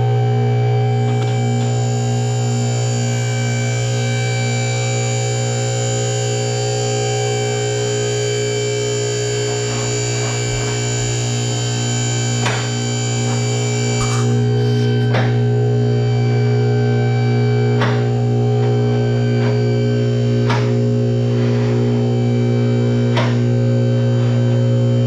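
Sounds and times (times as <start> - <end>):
distorted drone music: 0.0 - 25.0.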